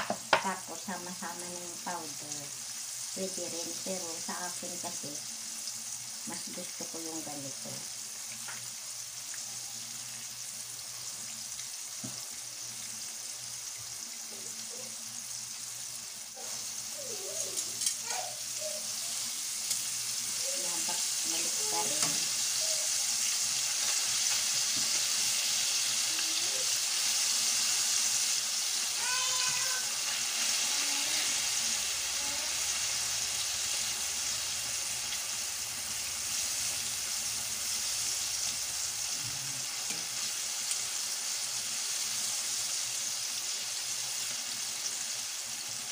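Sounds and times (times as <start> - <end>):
meat sizzling in frying oil: 0.0 - 45.9.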